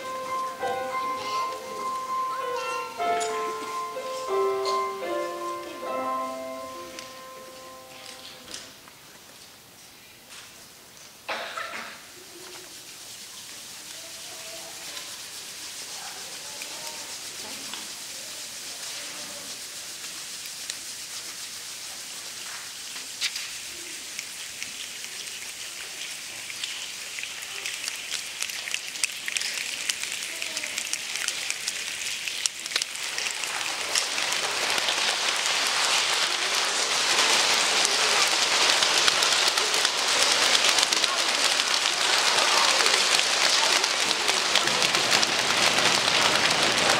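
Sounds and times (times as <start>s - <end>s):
hands rubbing like rain: 0.0s - 11.3s, 11.9s - 46.9s.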